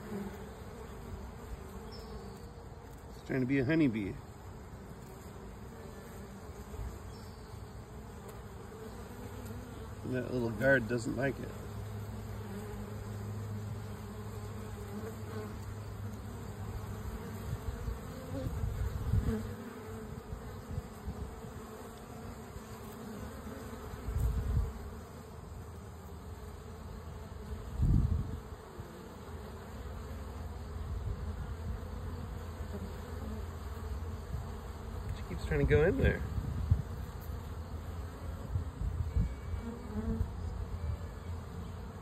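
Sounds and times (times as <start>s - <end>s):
bees buzzing: 0.0s - 42.0s.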